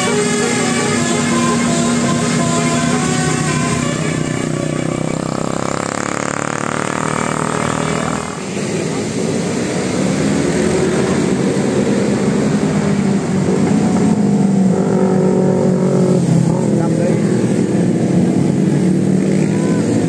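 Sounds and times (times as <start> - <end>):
large engine humming: 0.0 - 20.0
vehicle rushing past: 0.0 - 20.0.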